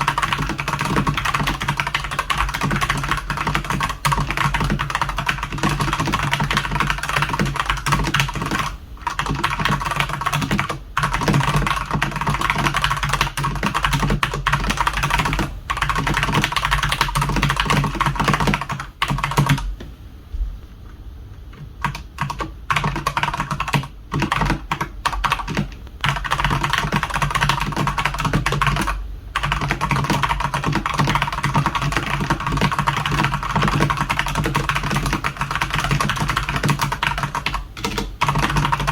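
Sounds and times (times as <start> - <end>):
mechanical keyboard typing: 0.0 - 19.7, 21.8 - 38.9.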